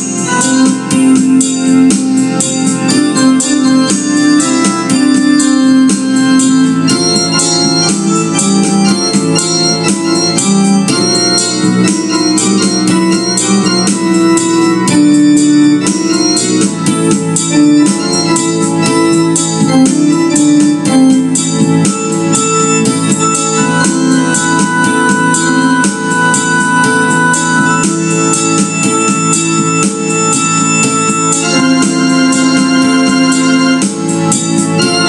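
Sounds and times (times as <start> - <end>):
electronic keyboard playing chords: 0.0 - 35.0.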